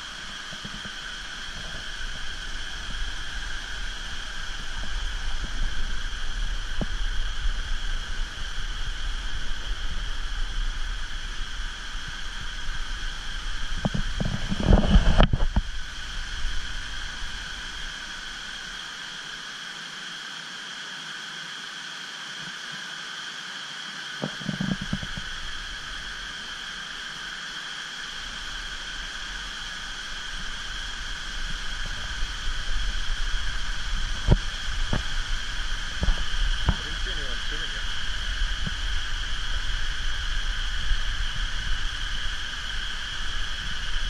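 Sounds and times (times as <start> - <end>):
high-pitched hum: 0.0 - 19.8, 24.2 - 44.0
outdoor hiss: 0.0 - 44.0.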